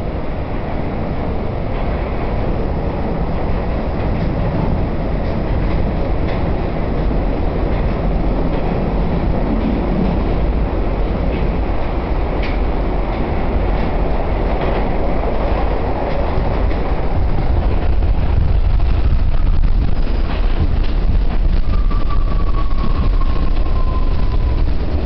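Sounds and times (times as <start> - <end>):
subway wheels rumbling on rail: 0.0 - 25.0.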